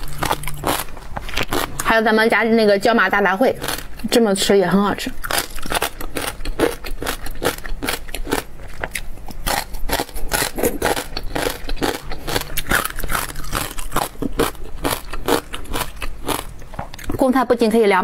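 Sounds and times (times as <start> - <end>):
crunchy chewing: 0.0 - 2.0, 3.5 - 4.2, 5.1 - 17.2.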